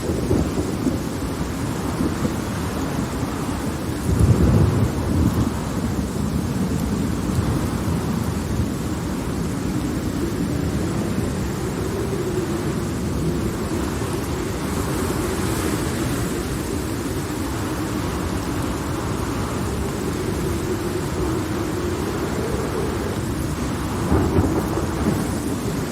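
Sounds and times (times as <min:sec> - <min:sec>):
steady rain: 0:00.0 - 0:25.9
distant thunder rumbling: 0:03.0 - 0:25.9.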